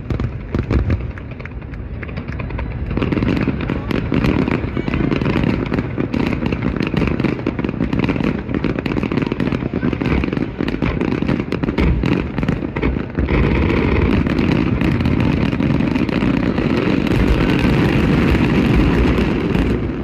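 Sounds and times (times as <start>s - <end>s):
firework bangs and crackles: 0.0s - 20.0s.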